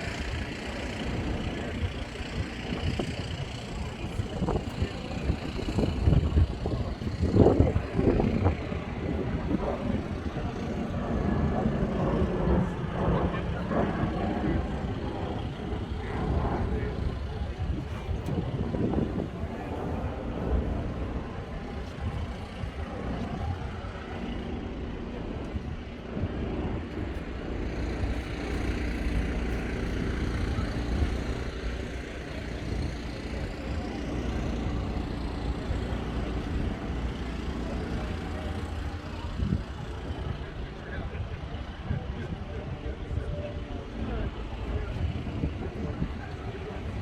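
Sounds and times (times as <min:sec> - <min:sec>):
constant low rumble: 0:00.0 - 0:47.0
steady engine hum: 0:00.0 - 0:47.0.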